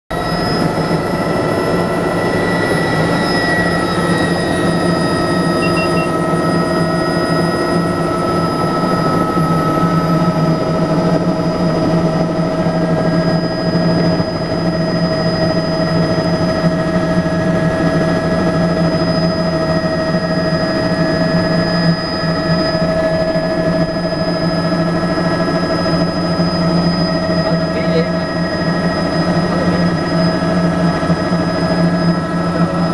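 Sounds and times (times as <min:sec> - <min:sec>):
helicopter rotor drone: 0:00.1 - 0:32.9
helicopter turbine whine: 0:00.1 - 0:32.9.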